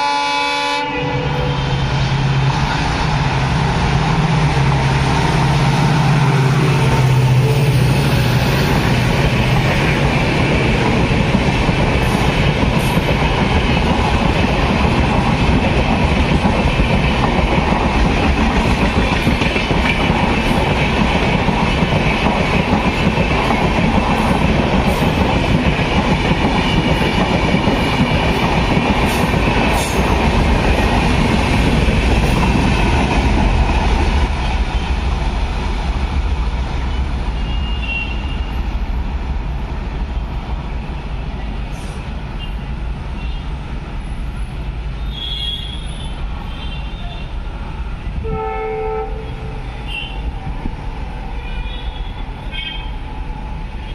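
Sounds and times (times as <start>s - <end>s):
train wheels rushing on rails: 0.0s - 53.9s.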